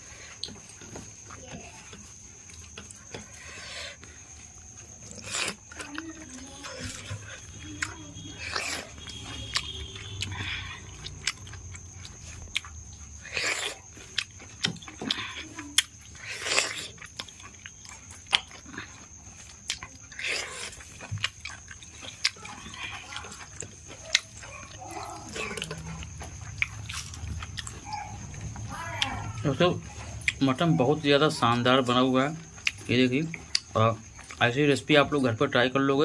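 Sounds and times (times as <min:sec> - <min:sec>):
people chewing food: 0:00.0 - 0:36.0.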